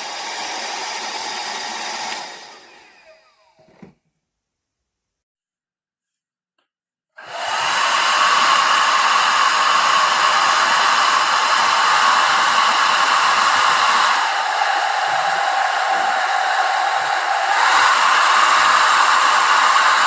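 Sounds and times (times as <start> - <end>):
hair dryer blowing: 0.0 - 4.0, 7.2 - 20.0.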